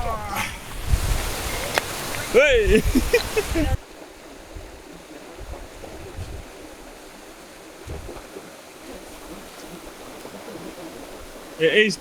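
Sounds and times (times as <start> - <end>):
stream and waterfall rushing: 0.0 - 12.0.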